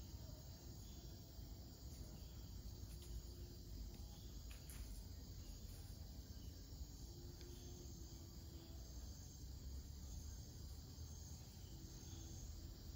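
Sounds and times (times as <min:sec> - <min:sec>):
night insects chirring: 0:00.0 - 0:12.9.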